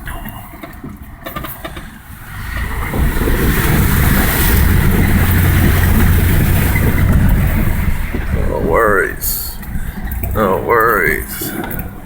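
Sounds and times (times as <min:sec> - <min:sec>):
vehicle engine rumble: 0:00.0 - 0:12.0
water rushing and splashing: 0:00.0 - 0:12.0.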